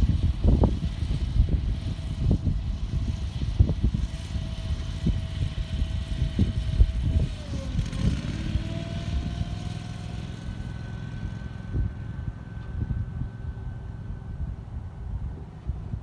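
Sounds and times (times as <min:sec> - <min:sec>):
engine hum: 0:00.0 - 0:16.0
wind buffeting microphone: 0:00.0 - 0:16.0.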